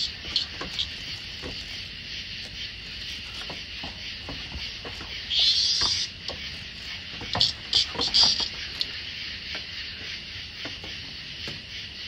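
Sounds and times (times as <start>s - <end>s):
cicada buzz: 0.0s - 12.0s
high insect drone: 0.0s - 12.0s.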